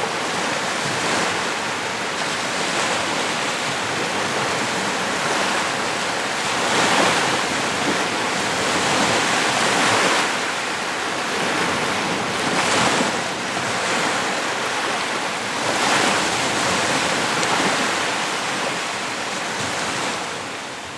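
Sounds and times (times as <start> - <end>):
waves washing onto a beach: 0.0 - 20.9.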